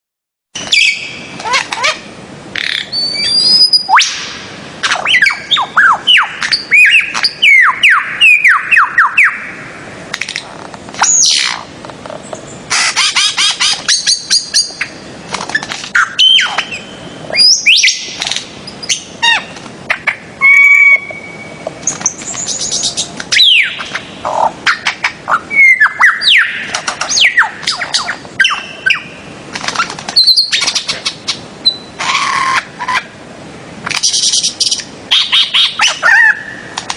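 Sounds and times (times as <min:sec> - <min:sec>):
birds calling loudly: 0:00.6 - 0:33.2, 0:33.9 - 0:36.9.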